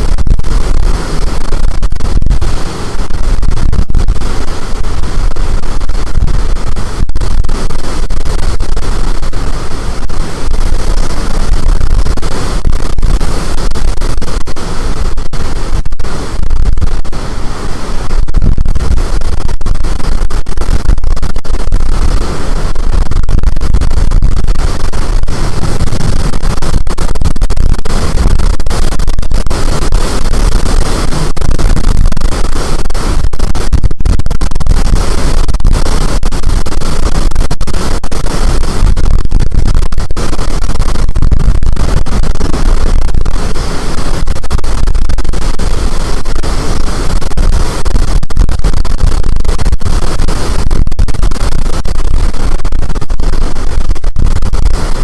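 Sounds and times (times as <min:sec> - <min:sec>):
storm wind on microphone: 0:00.0 - 0:55.0.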